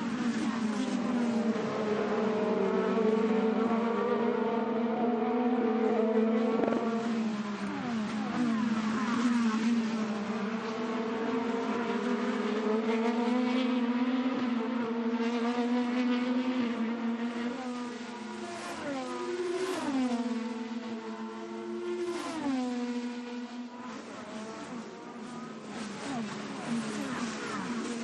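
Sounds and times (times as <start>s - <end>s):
racing car engine at speed: 0.0s - 28.0s.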